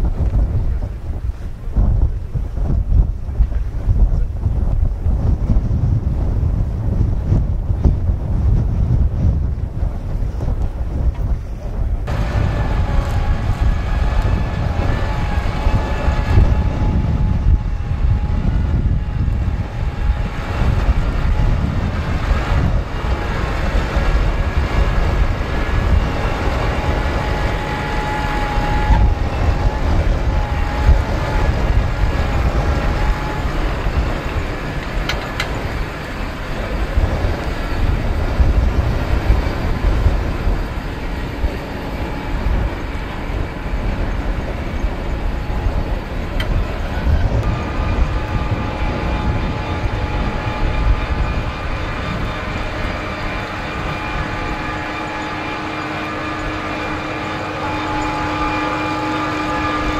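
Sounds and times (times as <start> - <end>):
tractor engine rumbling: 0.0 - 59.9
faint wavering whine: 11.4 - 59.9.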